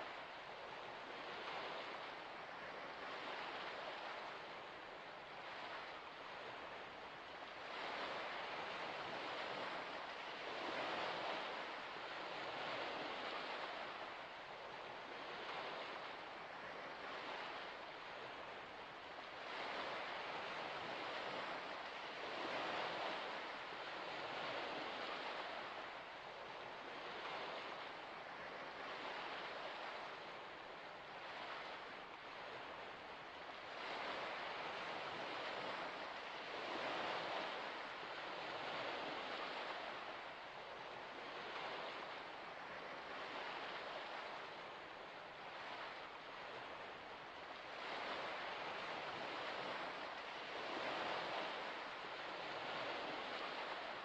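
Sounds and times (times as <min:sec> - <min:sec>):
small waves lapping at shore: 0:00.0 - 0:54.0.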